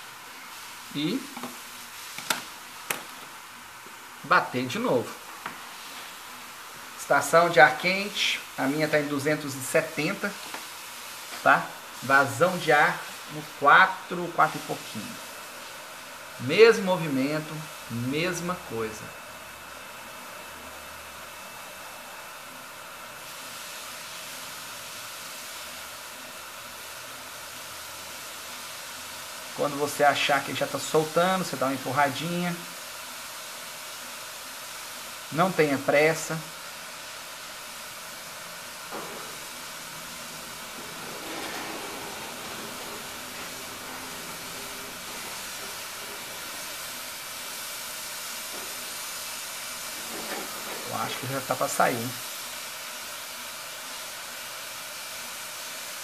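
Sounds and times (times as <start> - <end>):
hot air nozzle hissing: 0.0 - 19.0, 21.8 - 56.0.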